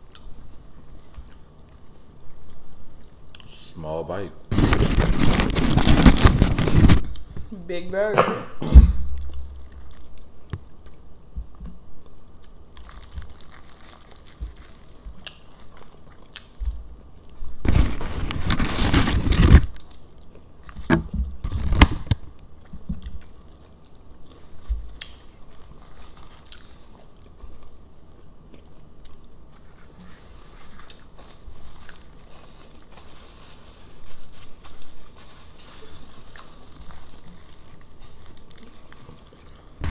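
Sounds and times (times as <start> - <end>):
chewing and crunching food: 0.0 - 3.5, 9.1 - 11.1, 12.0 - 39.9.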